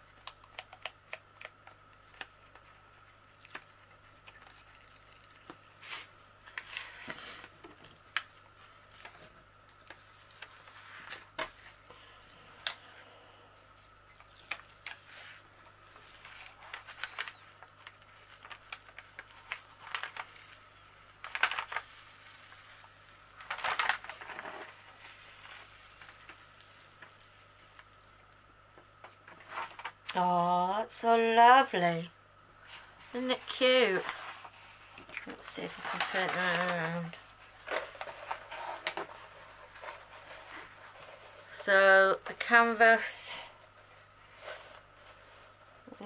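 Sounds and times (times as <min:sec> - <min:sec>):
plastic film crinkling: 0:00.0 - 0:11.8, 0:13.7 - 0:30.1, 0:32.7 - 0:46.0.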